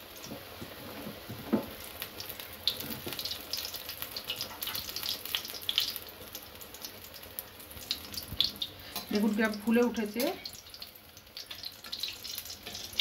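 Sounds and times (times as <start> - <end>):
deep-frying sizzle with pops: 0.0 - 13.0.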